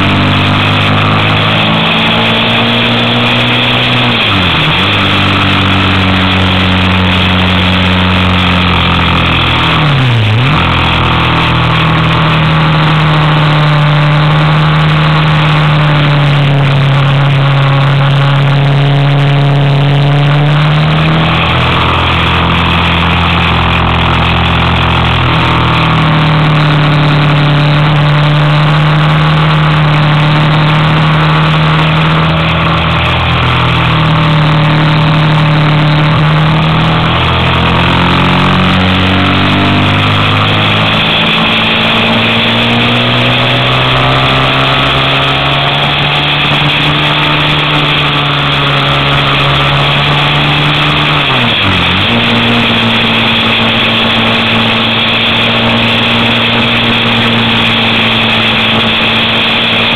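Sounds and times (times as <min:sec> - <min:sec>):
motorcycle engine climbing: 0:00.0 - 0:59.9.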